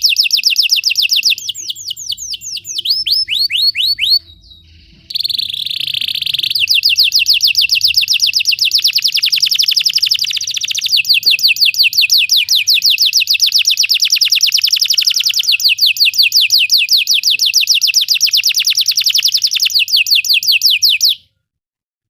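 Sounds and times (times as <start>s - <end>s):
canary singing: 0.0s - 21.3s.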